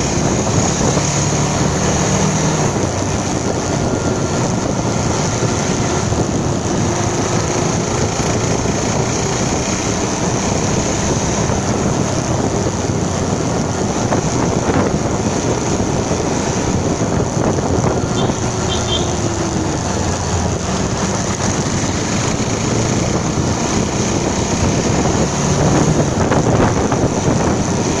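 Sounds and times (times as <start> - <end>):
motorcycle engine: 0.0 - 28.0
road noise: 0.0 - 28.0
wind rushing over microphone: 0.0 - 28.0.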